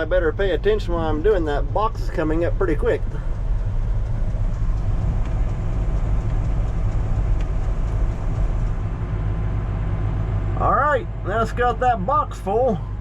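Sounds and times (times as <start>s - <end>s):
combine engine rumble: 0.0s - 13.0s.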